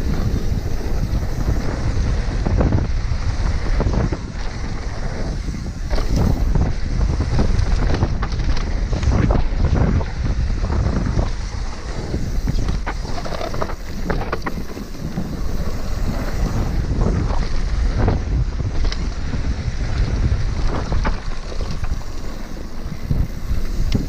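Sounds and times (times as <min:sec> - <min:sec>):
bike rattling and knocking: 0:00.0 - 0:24.0
wind buffeting microphone: 0:00.0 - 0:24.0.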